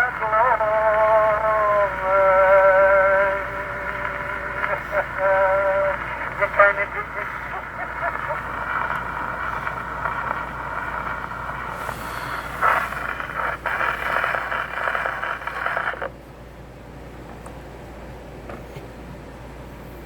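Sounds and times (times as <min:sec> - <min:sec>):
record surface noise crackle: 0:00.0 - 0:16.4.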